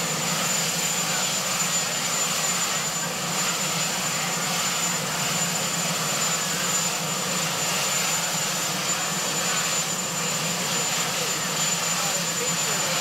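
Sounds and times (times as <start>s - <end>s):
helicopter engines and rotor: 0.0s - 13.0s.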